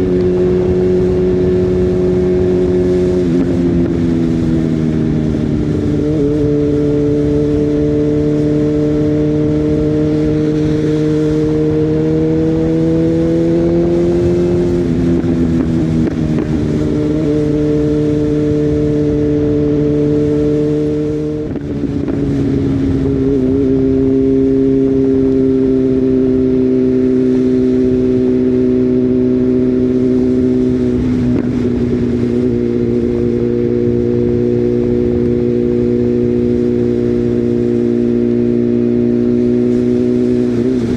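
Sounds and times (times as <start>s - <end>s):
motorcycle engine at riding speed: 0.0s - 40.9s.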